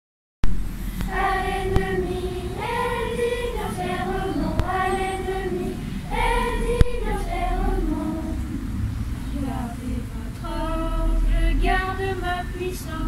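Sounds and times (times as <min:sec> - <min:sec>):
children's choir singing: 0:00.8 - 0:13.0.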